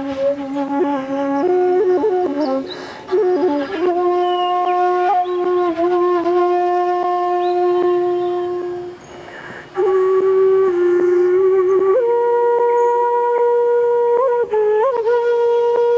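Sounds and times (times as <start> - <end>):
bamboo flute playing: 0.0 - 15.9.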